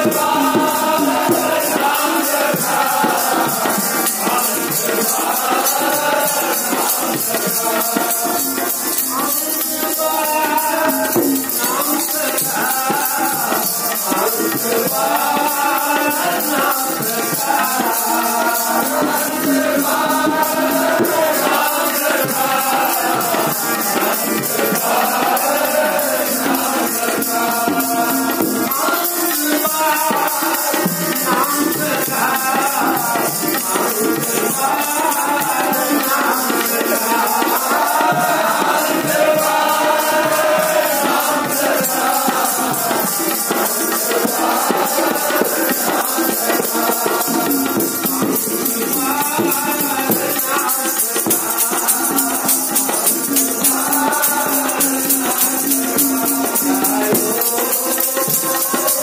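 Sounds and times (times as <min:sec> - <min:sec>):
devotional singing: 0:00.0 - 0:59.0
harmonium: 0:00.0 - 0:59.0.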